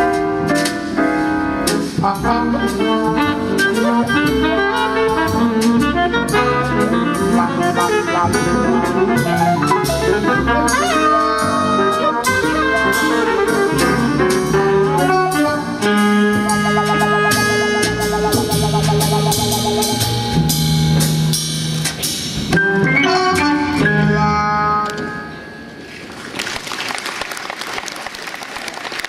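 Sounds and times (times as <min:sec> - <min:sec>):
small jazz band playing: 0:00.0 - 0:25.8.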